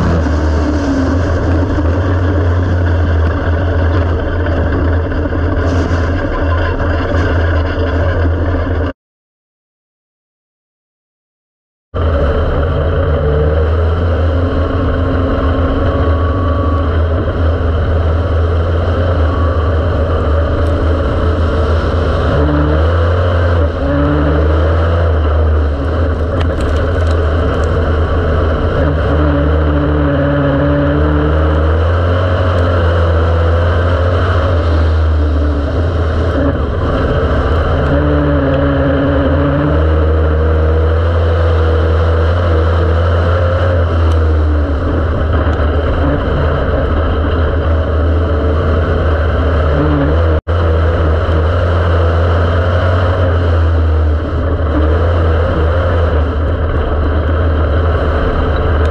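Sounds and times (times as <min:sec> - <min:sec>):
race car engine revving: 0:00.0 - 0:08.9, 0:12.0 - 0:58.9.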